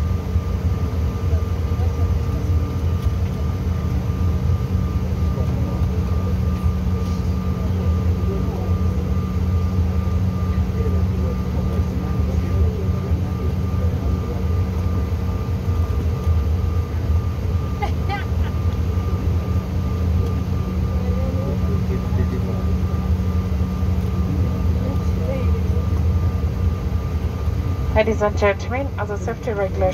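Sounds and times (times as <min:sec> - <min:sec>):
jet cabin low rumble: 0:00.0 - 0:29.9
steady high whine: 0:00.0 - 0:29.9.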